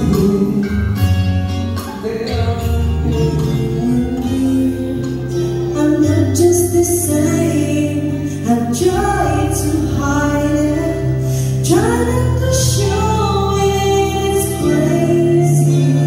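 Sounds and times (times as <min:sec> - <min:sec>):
held bass notes: 0:00.0 - 0:16.0
woman singing: 0:00.0 - 0:16.0.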